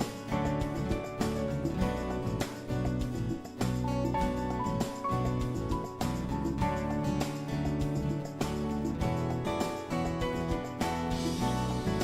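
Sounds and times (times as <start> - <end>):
plucked guitar music with beat: 0.0 - 12.0.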